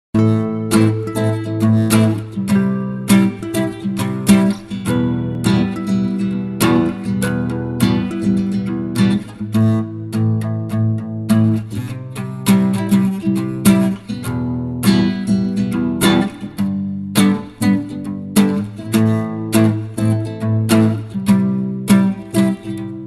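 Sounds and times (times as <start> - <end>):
acoustic guitar playing: 0.1 - 23.0.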